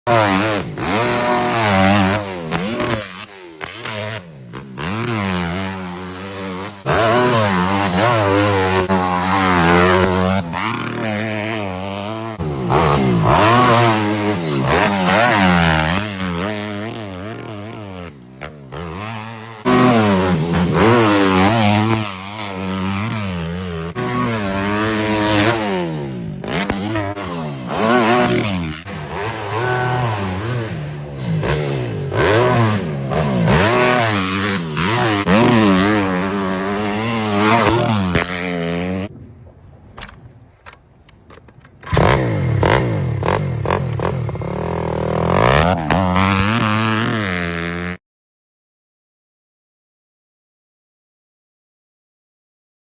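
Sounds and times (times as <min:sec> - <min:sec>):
dirt bike engine revving: 0:00.1 - 0:39.1, 0:40.0 - 0:48.0.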